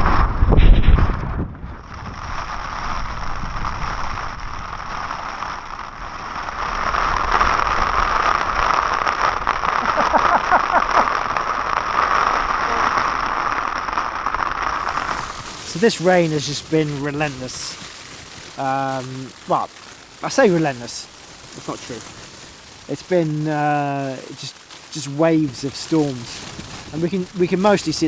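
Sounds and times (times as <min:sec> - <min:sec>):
rain pattering on tent fabric: 0:01.8 - 0:28.0.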